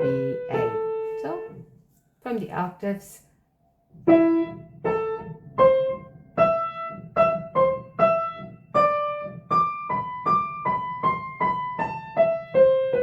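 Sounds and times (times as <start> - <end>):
slow piano melody: 0.0 - 1.7, 3.9 - 13.0.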